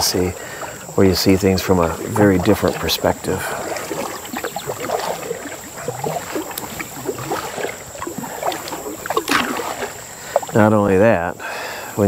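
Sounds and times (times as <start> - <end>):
soft paddle strokes: 0.0 - 10.9
water trickling and gurgling: 0.0 - 11.3.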